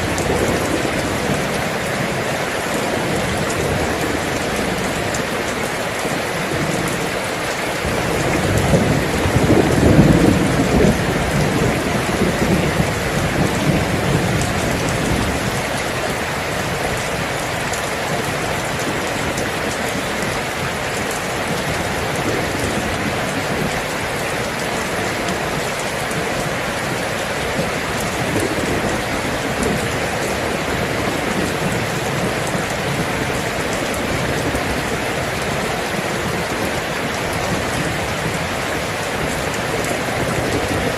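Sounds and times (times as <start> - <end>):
heavy rain falling: 0.0 - 40.9
thunder rumbling: 0.0 - 40.9.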